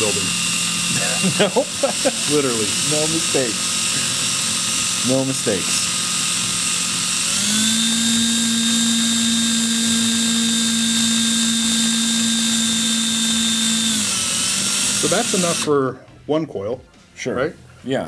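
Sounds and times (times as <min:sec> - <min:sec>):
cordless drill motor whine: 0:00.0 - 0:15.8.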